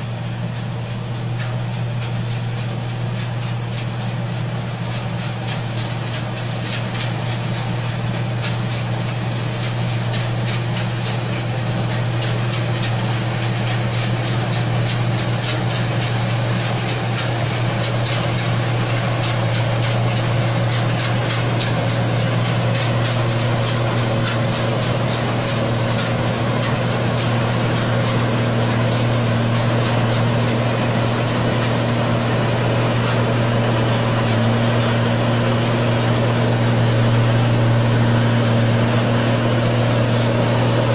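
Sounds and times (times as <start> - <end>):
machine engine drone: 0.0 - 40.9
mechanical rattle: 1.4 - 40.9.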